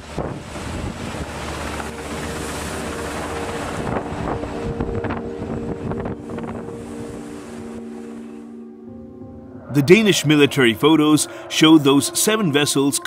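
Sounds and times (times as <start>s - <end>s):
distant helicopter: 0.0s - 11.6s
wind buffeting microphone: 0.0s - 12.1s
sea rushing: 0.0s - 13.0s
steady low tones: 0.0s - 13.0s.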